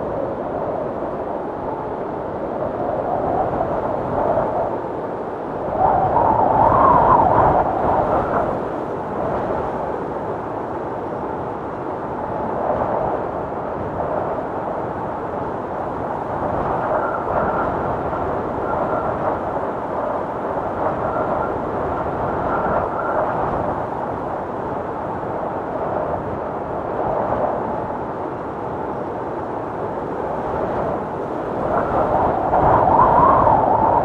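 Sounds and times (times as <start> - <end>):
faint high whistle of wind: 0.0 - 34.0
storm wind gusting: 0.0 - 34.0.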